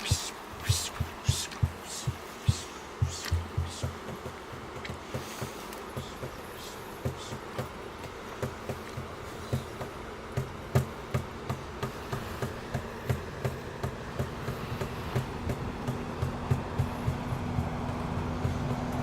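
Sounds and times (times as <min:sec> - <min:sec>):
faint steady hiss: 0:00.0 - 0:15.3
hand drum beating: 0:00.0 - 0:18.9.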